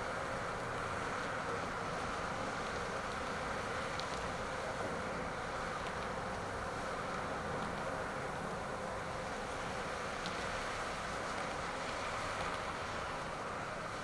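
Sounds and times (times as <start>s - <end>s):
distant city traffic hum: 0.0s - 14.0s.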